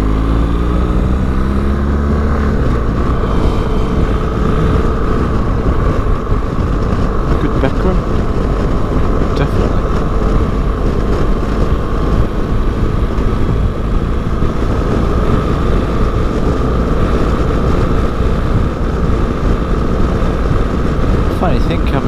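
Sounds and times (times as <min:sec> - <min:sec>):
motorcycle cruising: 0:00.0 - 0:22.0.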